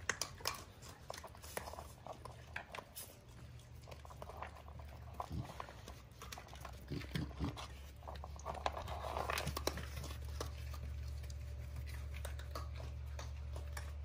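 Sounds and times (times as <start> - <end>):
animals crunching dry kibble: 0.0 - 14.0
steady low hum: 0.0 - 14.0.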